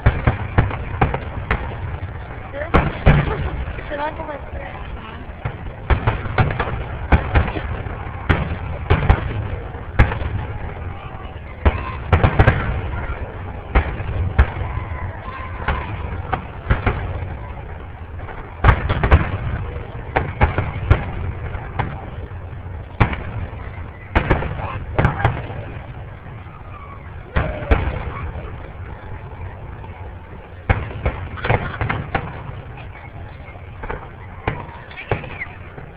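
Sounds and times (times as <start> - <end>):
fireworks bangs with echoes: 0.0 - 35.9
murmur of crowd voices: 0.0 - 35.9.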